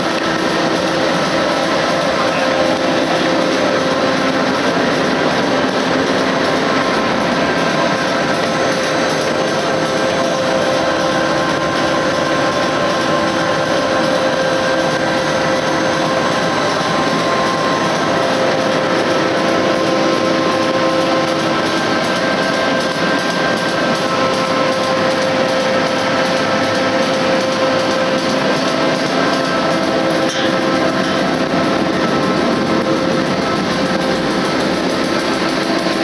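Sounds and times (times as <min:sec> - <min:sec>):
printing press running: 0:00.0 - 0:36.0.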